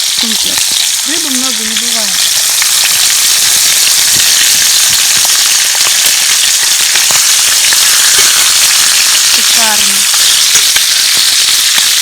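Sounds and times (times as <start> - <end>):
fish frying sizzle: 0.0 - 12.0.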